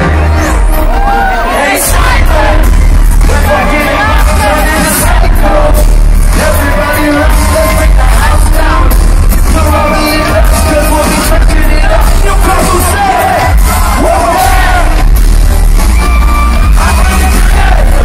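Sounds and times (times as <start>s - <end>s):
heavy bass: 0.0s - 18.0s
live concert music with singing: 0.0s - 18.0s.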